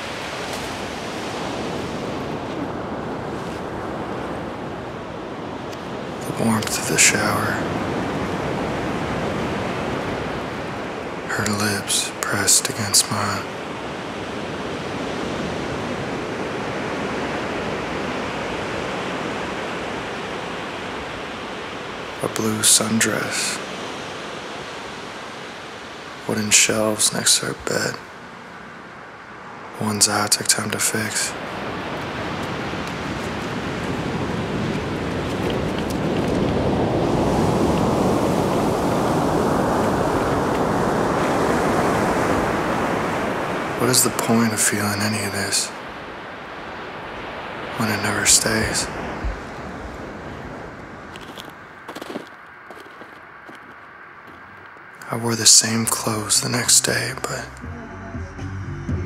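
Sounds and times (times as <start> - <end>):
ocean surf rushing: 0.0 - 57.7.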